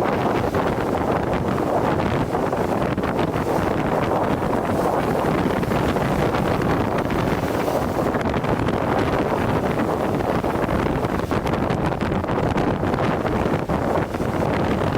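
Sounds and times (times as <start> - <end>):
waves crashing against breakwater: 0.0 - 14.9
wind buffeting microphone: 0.0 - 14.9.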